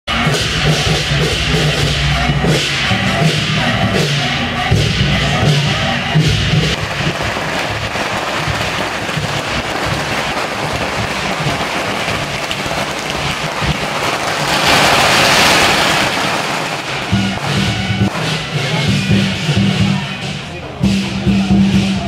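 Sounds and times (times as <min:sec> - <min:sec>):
firecrackers crackling: 0:00.1 - 0:22.0.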